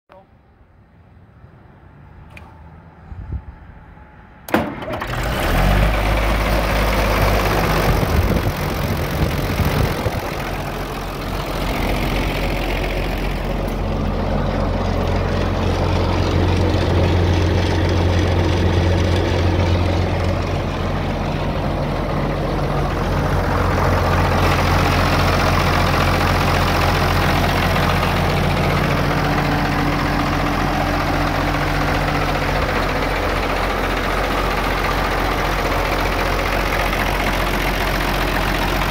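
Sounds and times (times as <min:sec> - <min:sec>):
tractor engine starting and idling: 0:04.4 - 0:38.9.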